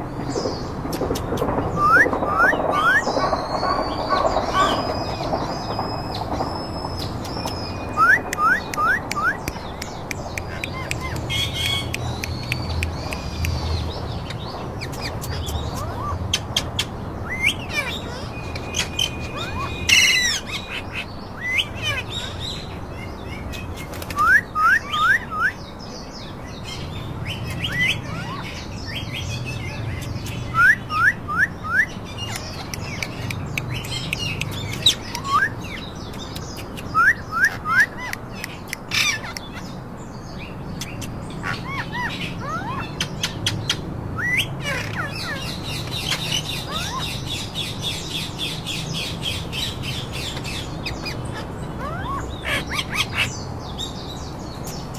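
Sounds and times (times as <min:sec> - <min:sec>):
parakeets chirping: 0:00.0 - 0:54.9.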